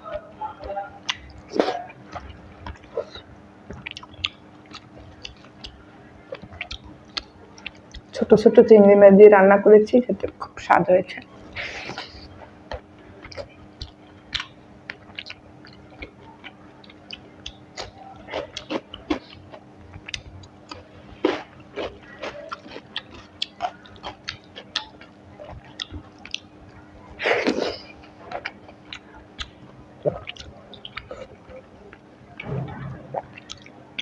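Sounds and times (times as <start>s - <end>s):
close chewing and lip smacks: 0.0s - 8.2s, 11.2s - 27.2s, 27.8s - 32.5s.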